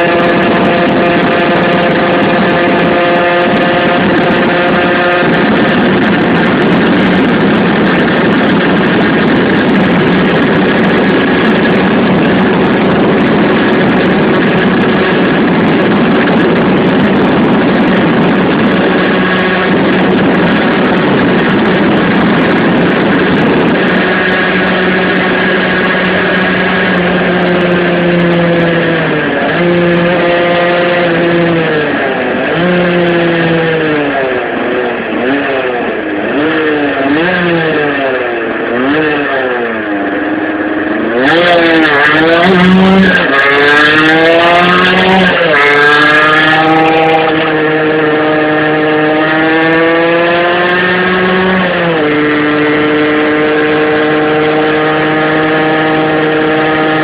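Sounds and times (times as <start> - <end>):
loud even rush: 0.0 - 57.0
two-stroke engine running hard: 0.0 - 57.0.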